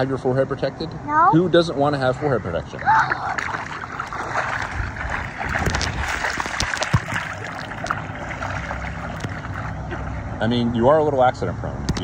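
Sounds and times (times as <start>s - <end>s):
pool water splashing and lapping: 0.0s - 11.5s.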